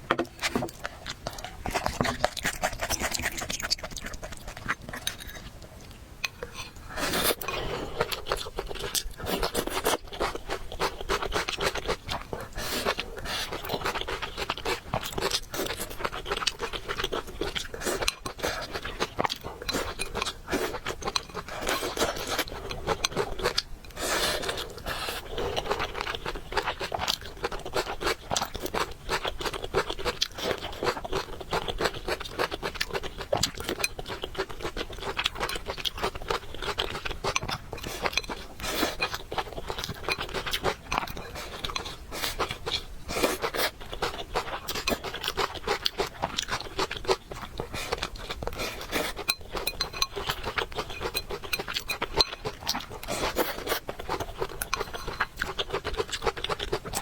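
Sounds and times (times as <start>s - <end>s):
person chewing noodles: 0.2s - 57.0s.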